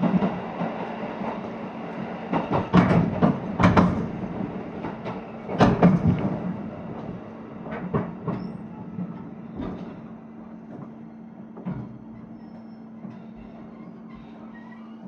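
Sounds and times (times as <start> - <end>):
train running noise with hum: 0.0 - 15.0.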